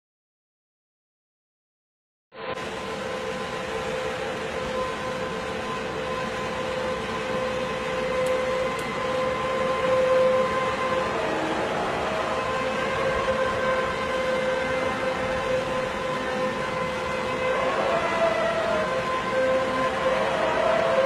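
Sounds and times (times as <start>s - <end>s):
trumpet-like drone: 2.4s - 21.0s.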